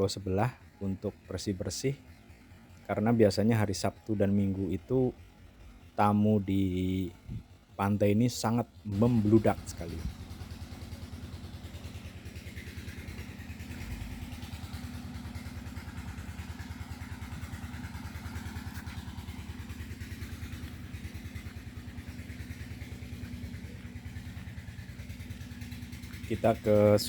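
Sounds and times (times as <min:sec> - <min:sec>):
generator engine chugging: 0:00.0 - 0:27.0.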